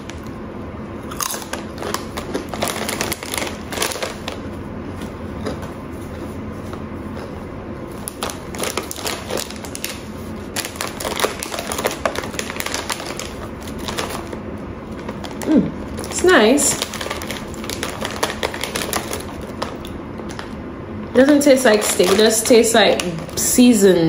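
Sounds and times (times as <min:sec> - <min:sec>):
potato chips crunching: 0:01.0 - 0:05.7, 0:07.1 - 0:20.6, 0:21.2 - 0:23.5.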